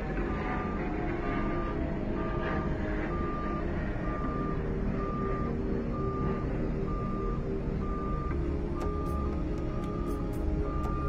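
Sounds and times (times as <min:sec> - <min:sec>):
reversing alarm beeping: 0:00.3 - 0:11.0.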